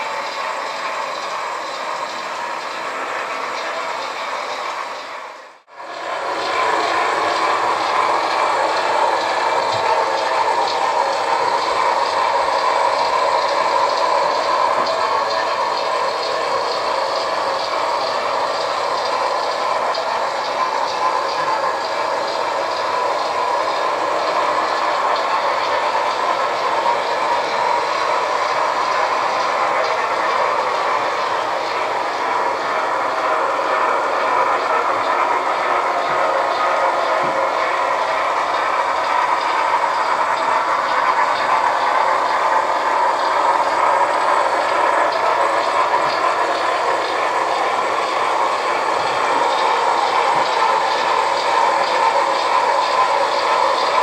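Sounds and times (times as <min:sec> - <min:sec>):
model train wheels rolling: 0:00.0 - 0:54.0.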